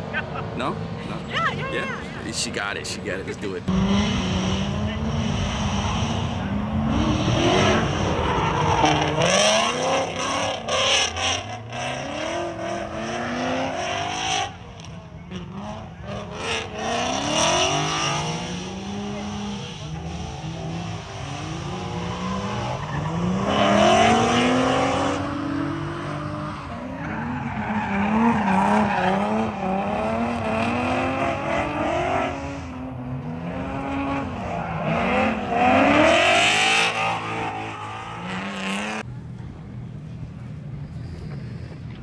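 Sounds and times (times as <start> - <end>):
car engine revving: 0.0 - 39.1
tyres squealing and skidding: 3.5 - 14.6, 15.2 - 32.8, 33.6 - 39.0.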